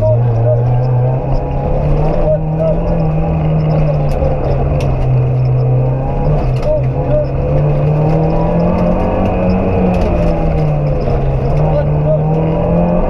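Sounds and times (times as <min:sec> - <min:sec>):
car engine running hard: 0:00.0 - 0:13.0
road and tyre noise: 0:00.0 - 0:13.0.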